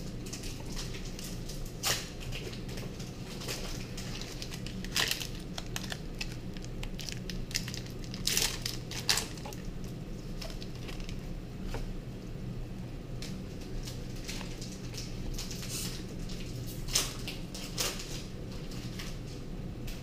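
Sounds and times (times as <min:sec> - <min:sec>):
foil wrappers crinkling and tearing: 0:00.1 - 0:11.3, 0:13.2 - 0:19.2.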